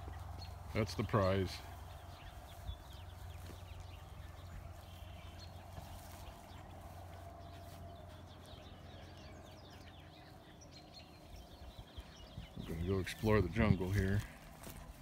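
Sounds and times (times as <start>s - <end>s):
puppies scuffling in grass: 0.0s - 15.0s.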